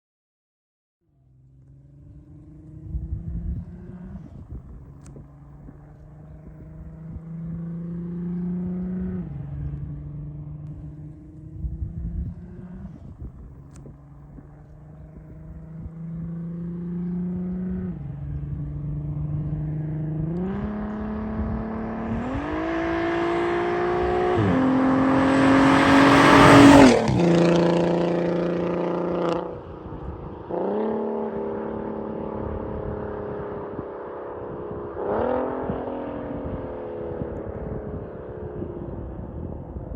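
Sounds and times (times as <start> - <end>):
car engine accelerating hard: 1.4 - 39.9.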